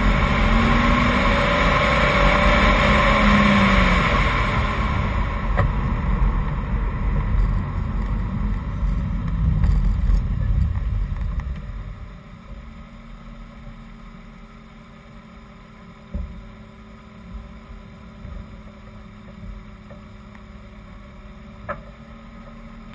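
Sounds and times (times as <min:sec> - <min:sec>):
car engine rumbling and idling: 0:00.0 - 0:22.9.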